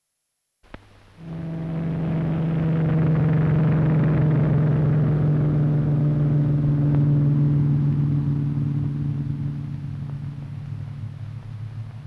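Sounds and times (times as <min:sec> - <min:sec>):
piston aircraft engine drone: 0:01.2 - 0:12.0.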